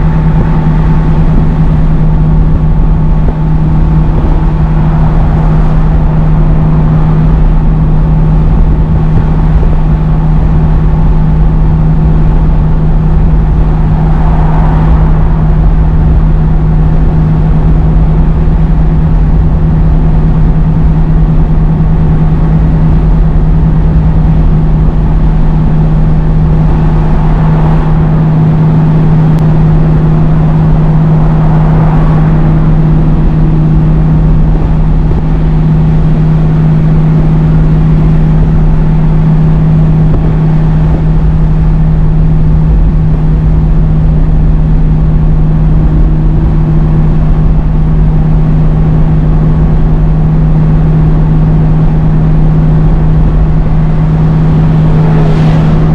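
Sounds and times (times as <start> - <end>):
road noise: 0.0 - 55.9
truck diesel engine droning: 0.0 - 55.9
wind noise: 0.0 - 55.9.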